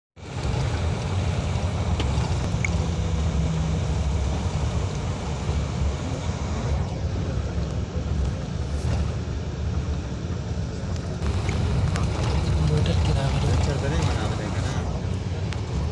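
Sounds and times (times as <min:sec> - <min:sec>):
bus engine and road noise: 0:00.2 - 0:15.9.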